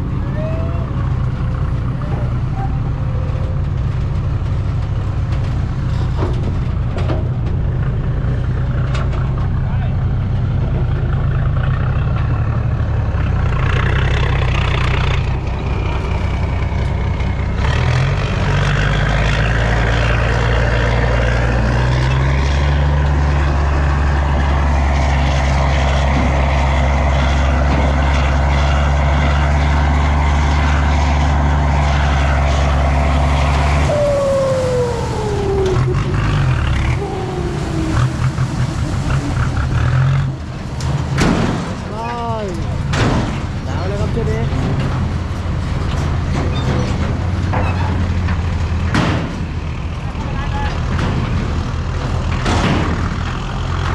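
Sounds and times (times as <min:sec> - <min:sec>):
diesel truck engine revving: 0:00.0 - 0:53.9.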